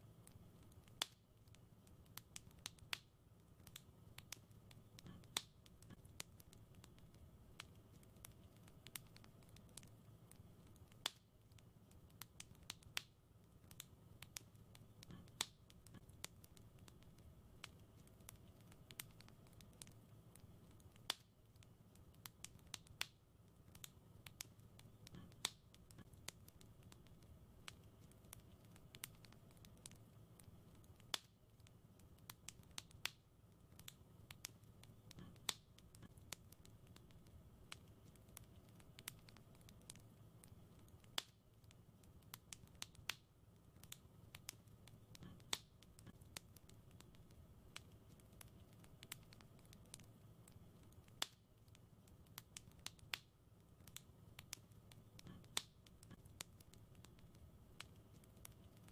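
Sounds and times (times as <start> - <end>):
faint wood fire crackling: 0.0 - 58.9.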